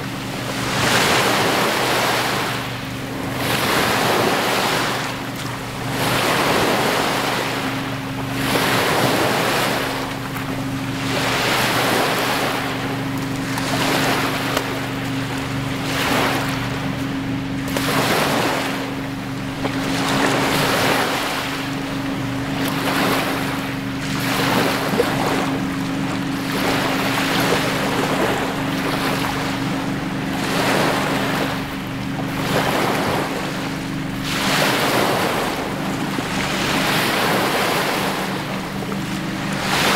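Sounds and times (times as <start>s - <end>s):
steady low hum: 0.0s - 39.9s
waves lapping on shore: 0.0s - 39.9s.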